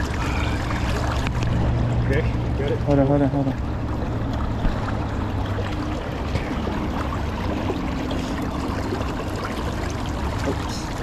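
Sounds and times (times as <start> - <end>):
light water splashes: 0.0 - 11.0.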